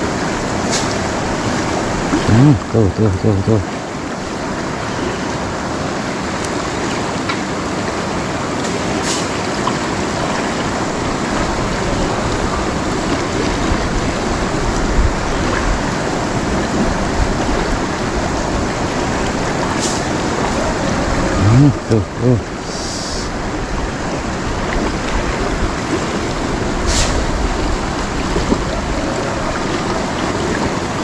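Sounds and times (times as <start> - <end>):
river rushing over rocks: 0.0 - 2.8, 3.6 - 31.0.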